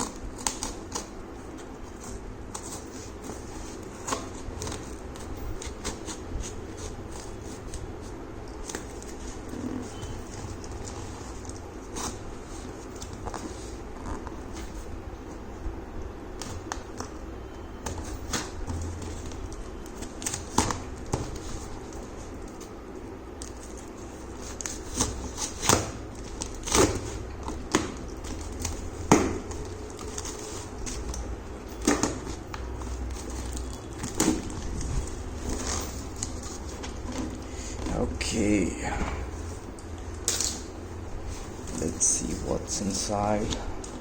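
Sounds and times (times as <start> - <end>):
cardboard packaging being handled: 0.0 - 15.6, 16.3 - 40.6
steady low hum: 0.0 - 44.0.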